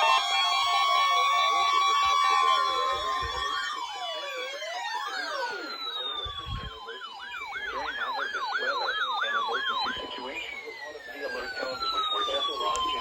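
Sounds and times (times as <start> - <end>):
emergency siren fast yelp: 0.0 - 13.0
emergency siren wail: 0.0 - 13.0.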